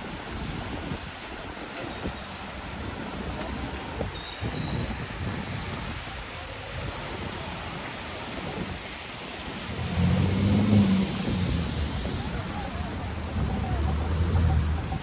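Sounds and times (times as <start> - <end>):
traffic on wet roads: 0.0 - 15.0.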